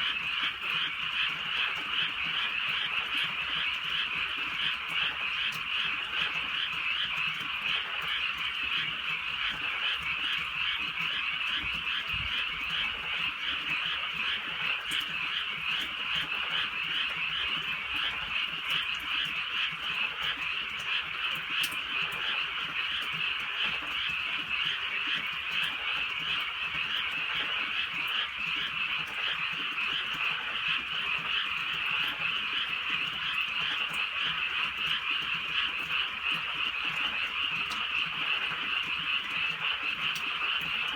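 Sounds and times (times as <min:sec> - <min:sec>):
frogs croaking chorus: 0:00.0 - 0:40.9.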